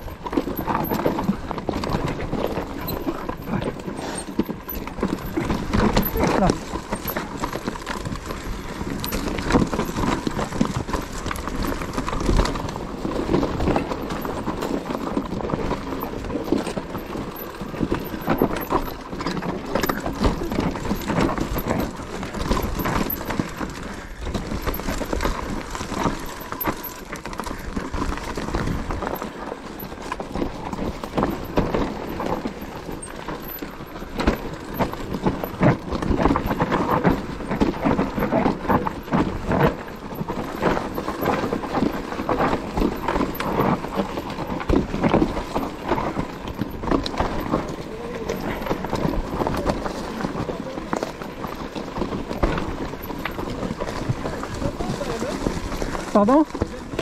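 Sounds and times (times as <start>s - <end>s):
mountain bike rattling over rocks: 0.0s - 57.0s.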